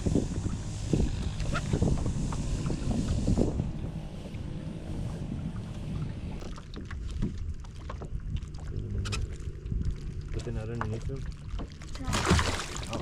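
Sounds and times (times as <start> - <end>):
water moving against boat hull: 0.0 - 13.0
wind rumbling on microphone: 0.0 - 13.0.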